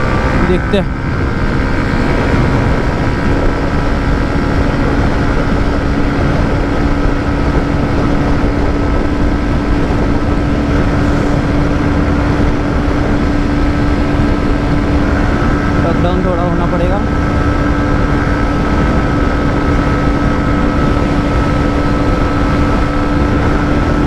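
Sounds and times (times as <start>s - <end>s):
motorcycle engine at high revs: 0.0s - 24.0s
wind rush on microphone: 0.0s - 24.0s.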